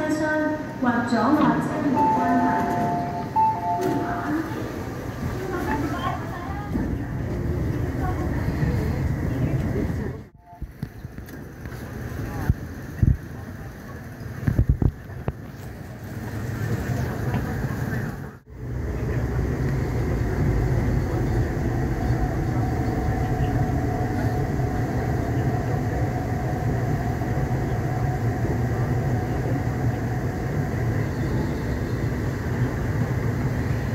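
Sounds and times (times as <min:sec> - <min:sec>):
faint train whine: 0:00.0 - 0:33.9
train cars rumbling: 0:00.0 - 0:33.9.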